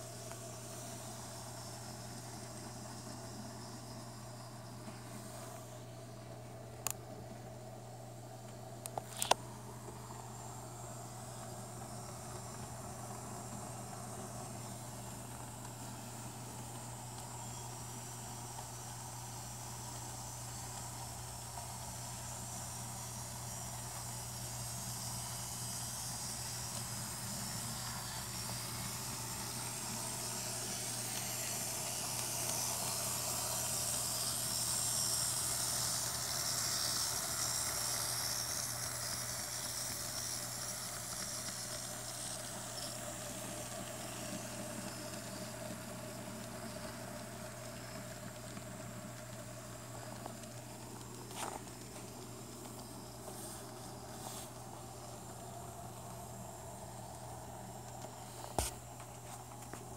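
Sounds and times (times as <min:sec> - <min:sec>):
model train running on track: 0:00.0 - 0:59.9.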